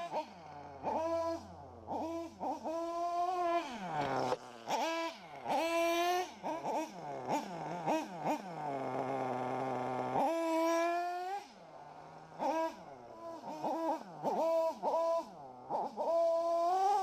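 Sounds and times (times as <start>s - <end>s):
electric rc buggy motor whining: 0.0s - 17.0s.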